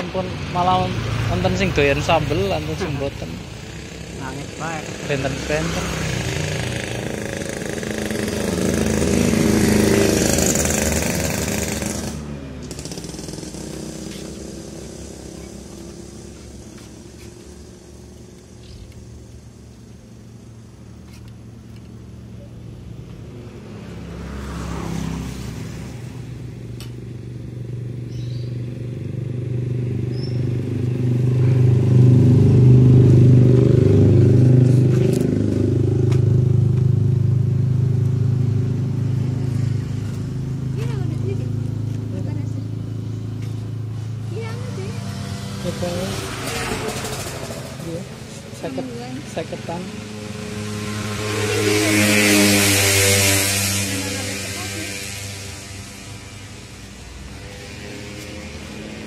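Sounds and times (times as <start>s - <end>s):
engine low hum: 0.0s - 59.0s
road traffic passing: 0.0s - 59.0s.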